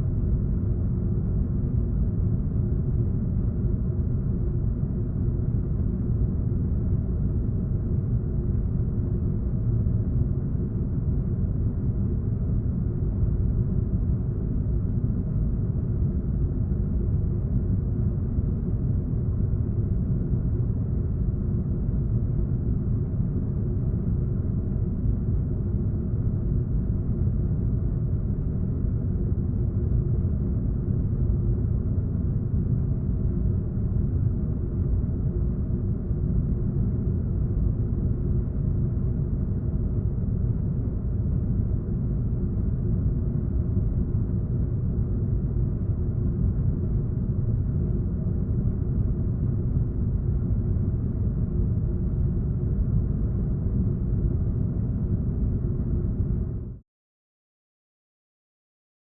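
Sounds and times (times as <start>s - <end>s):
air vent bass rumble: 0.0s - 56.8s
faint hum: 0.0s - 56.8s.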